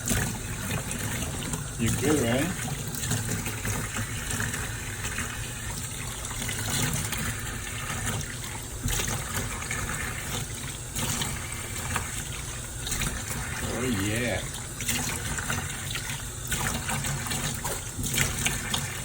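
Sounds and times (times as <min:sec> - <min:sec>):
water running: 0:00.0 - 0:19.0
water splashes: 0:00.0 - 0:19.0.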